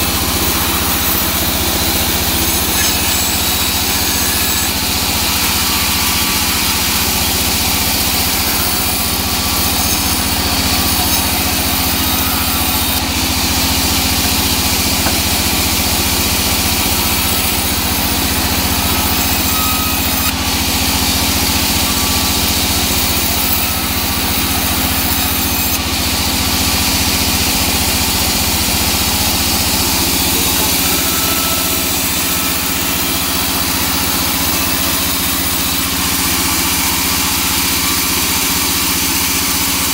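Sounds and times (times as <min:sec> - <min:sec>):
saw blade hissing: 0:00.0 - 0:26.7, 0:27.3 - 0:39.6
band saw drive humming: 0:00.0 - 0:39.9.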